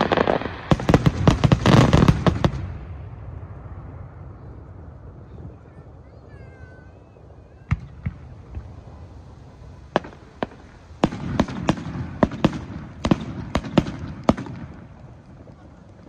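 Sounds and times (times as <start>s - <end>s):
fireworks bangs: 0.0s - 16.0s
low rolling echo: 0.0s - 16.0s.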